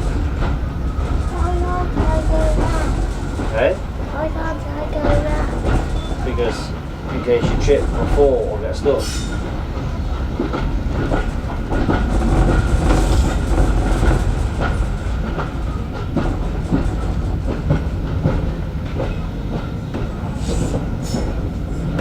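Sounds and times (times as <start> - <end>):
train carriage rumble: 0.0 - 22.0
wheels clicking over rails: 0.0 - 22.0.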